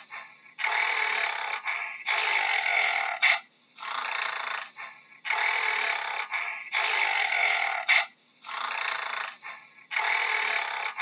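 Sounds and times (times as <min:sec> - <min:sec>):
gorilla breathing heavily: 0:00.0 - 0:11.0.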